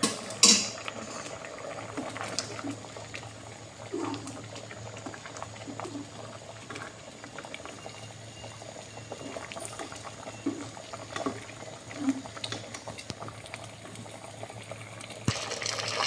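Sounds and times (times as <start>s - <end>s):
thick porridge bubbling and popping: 0.0s - 16.0s.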